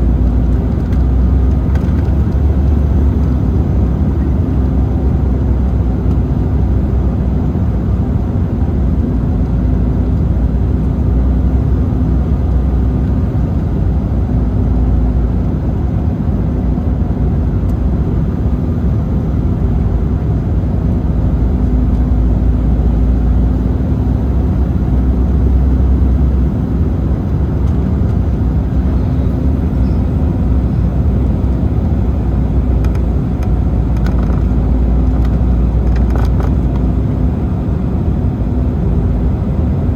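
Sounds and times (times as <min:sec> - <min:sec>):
jet engines and rushing airflow: 0:00.0 - 0:39.9
steady low hum: 0:00.0 - 0:39.9.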